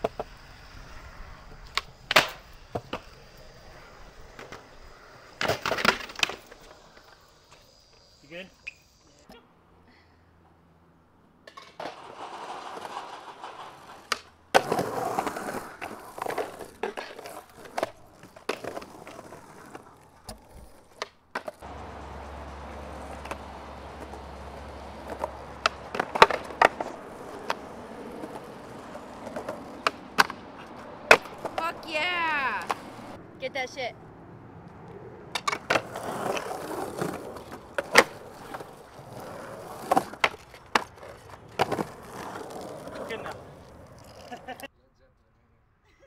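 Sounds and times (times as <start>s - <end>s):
skateboard clacking on ground: 0.0s - 9.3s, 11.4s - 33.2s, 34.7s - 44.7s
skateboard wheels rolling: 0.0s - 9.3s, 10.4s - 44.7s.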